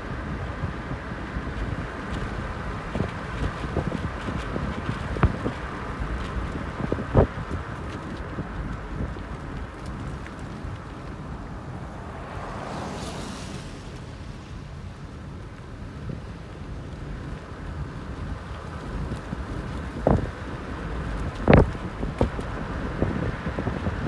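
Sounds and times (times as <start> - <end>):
car road and wind noise: 0.0 - 24.0
wind buffeting microphone: 0.0 - 24.0.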